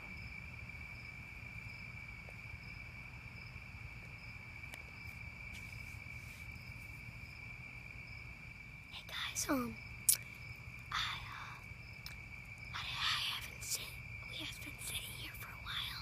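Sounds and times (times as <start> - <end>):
crickets trilling: 0.0 - 16.0
high insect chirp: 0.0 - 16.0.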